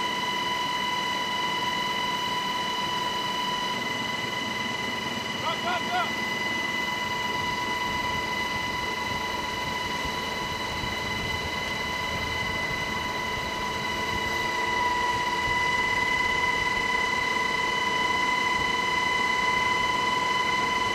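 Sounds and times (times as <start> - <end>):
helicopter rotor and engine noise: 0.0 - 20.9
high steady whine: 0.0 - 20.9.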